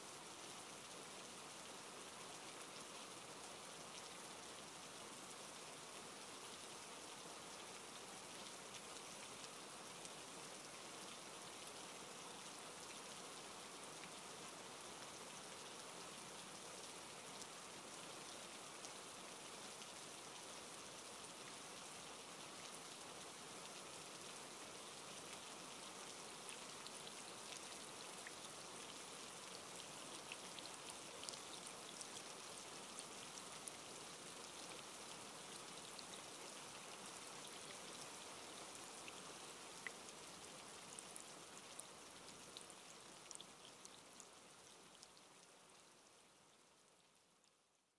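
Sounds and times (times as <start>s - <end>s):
faint steady rain: 0.0s - 47.9s.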